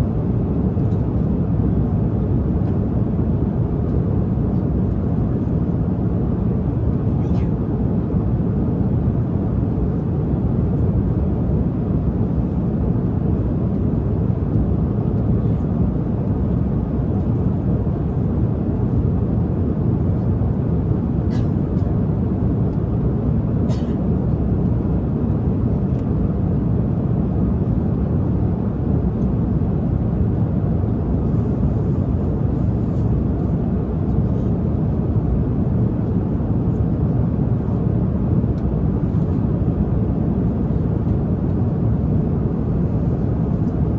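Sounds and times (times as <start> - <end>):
airliner cabin drone: 0.0 - 43.9.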